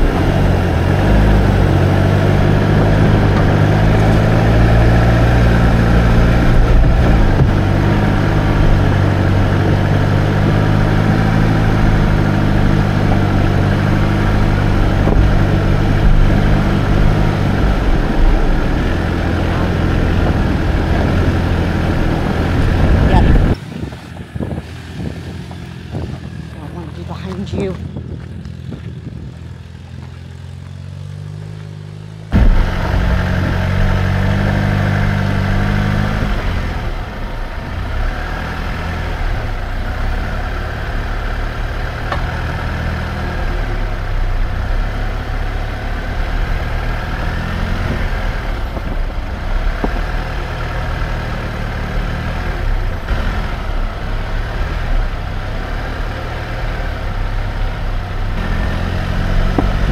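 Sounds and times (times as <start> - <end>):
car engine running: 0.0 - 59.9
tyres rumbling on trail: 0.0 - 59.9.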